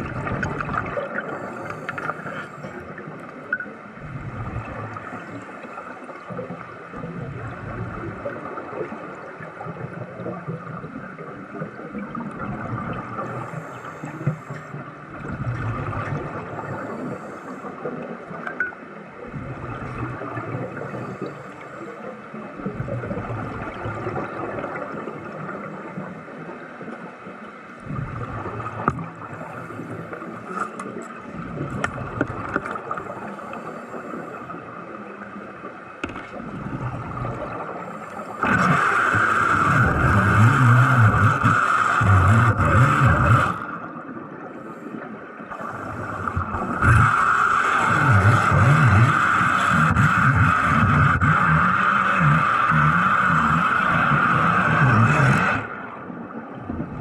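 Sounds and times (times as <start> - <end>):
underwater bubbling and gurgling: 0.0 - 57.0.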